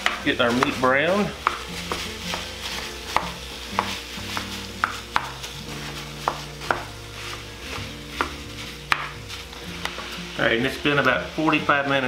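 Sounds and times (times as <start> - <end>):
spoon squishing and scraping meat: 0.0 - 10.2
faint sizzle: 0.0 - 12.0.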